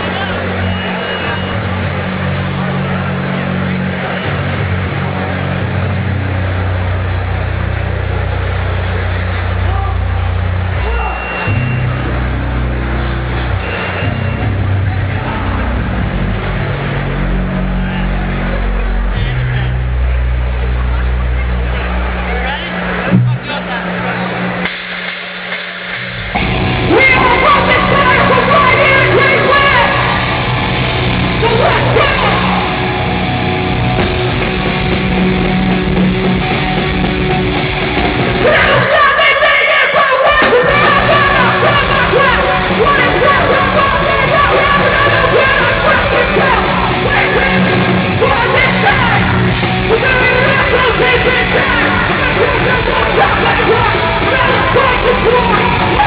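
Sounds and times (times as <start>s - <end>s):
metal band playing live: 0.0s - 39.0s, 40.4s - 56.0s.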